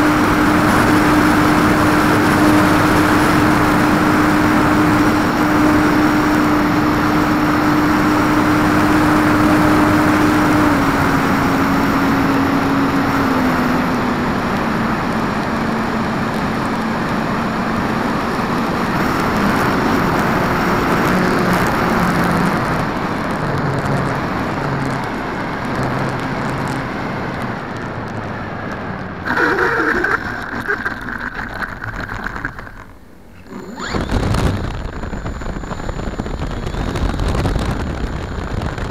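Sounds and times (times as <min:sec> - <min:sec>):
electric motor and propeller whine: 0:00.0 - 0:28.4, 0:29.2 - 0:38.9
plane rolling over grass: 0:00.0 - 0:38.9
wind rushing over camera: 0:00.0 - 0:38.9.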